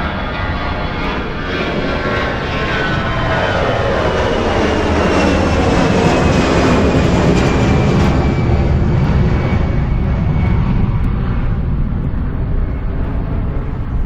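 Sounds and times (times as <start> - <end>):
airplane taking off overhead: 0.0 - 14.0.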